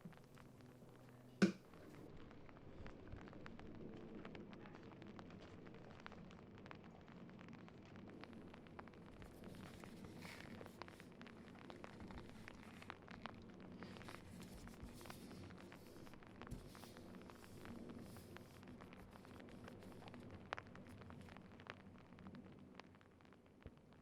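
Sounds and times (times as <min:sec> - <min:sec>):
low steady hum: 0:00.0 - 0:22.8
faint crackling clicks: 0:00.0 - 0:24.0.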